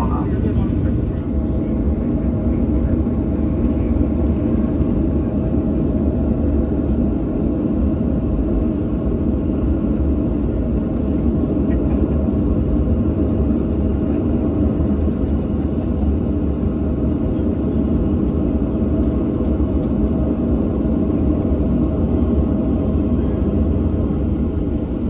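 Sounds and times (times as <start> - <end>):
jet engines idling: 0.0 - 25.0.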